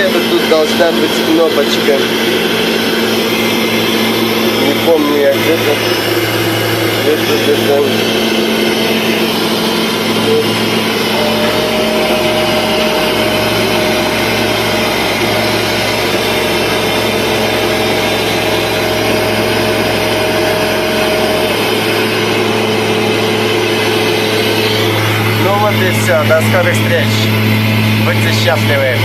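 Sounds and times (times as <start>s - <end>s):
airliner drone: 0.0s - 29.0s
low hum: 0.0s - 29.0s
steady whine: 0.0s - 29.0s.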